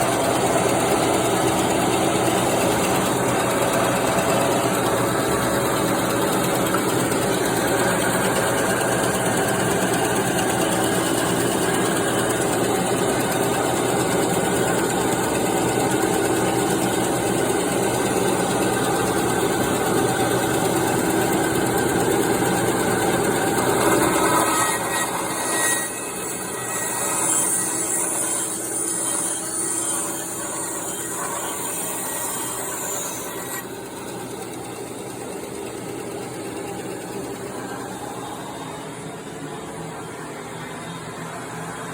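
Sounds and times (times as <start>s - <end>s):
bandsaw running: 0.0s - 38.7s.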